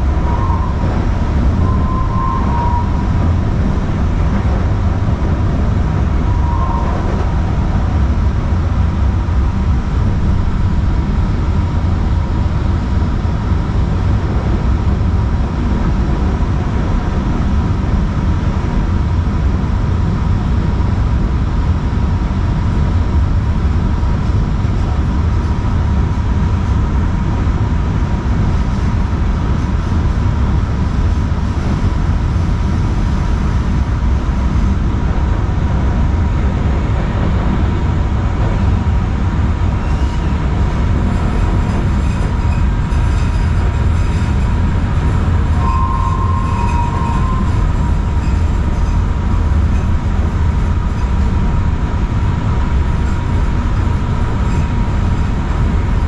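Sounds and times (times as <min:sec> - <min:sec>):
light rail car rumble: 0:00.0 - 0:56.0
steady whine: 0:00.0 - 0:56.0.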